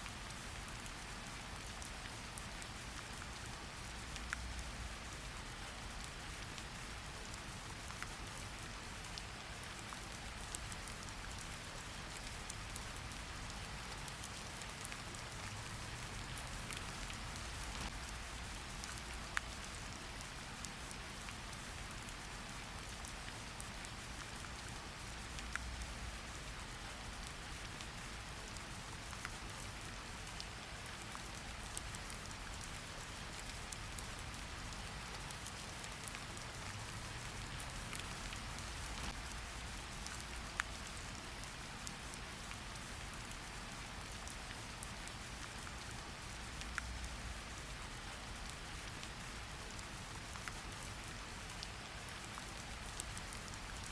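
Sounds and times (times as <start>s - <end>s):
steady rain on a surface: 0.0s - 53.9s.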